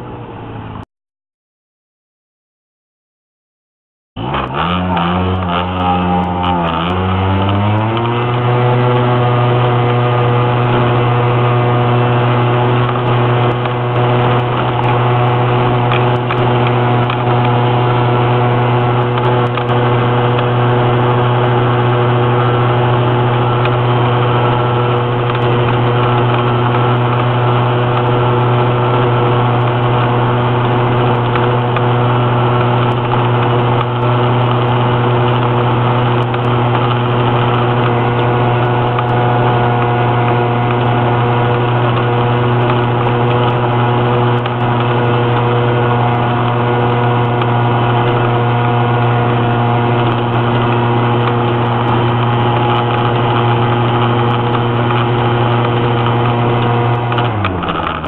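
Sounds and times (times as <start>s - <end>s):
scooter engine at high revs: 4.2s - 58.0s.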